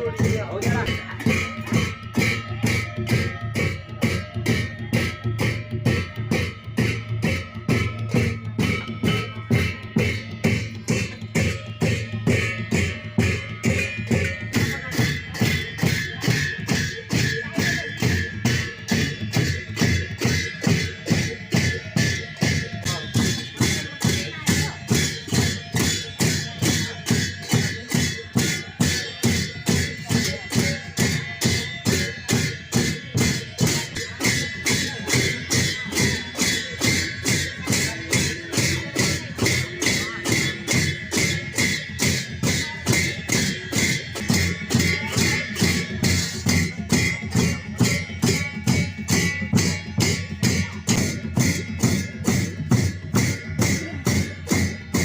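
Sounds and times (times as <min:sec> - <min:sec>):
drum beat: 0:00.0 - 0:55.0
ringing metallic tones: 0:00.0 - 0:55.0.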